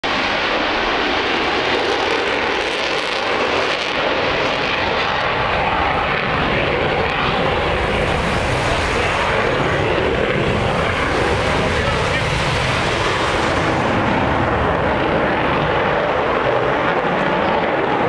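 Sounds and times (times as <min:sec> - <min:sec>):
jet roar flying past: 0:00.0 - 0:18.0.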